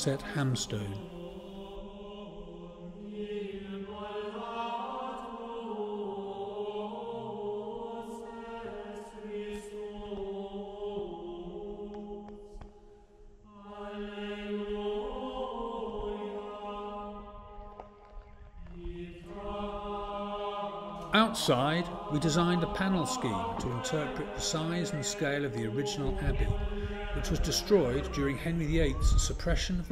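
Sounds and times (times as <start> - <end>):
slow vocal chant: 0.0 - 29.9.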